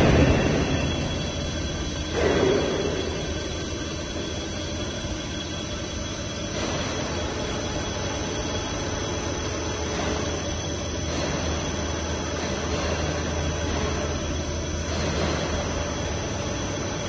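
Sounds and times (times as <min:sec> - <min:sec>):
machine low running hum: 0:00.0 - 0:17.0.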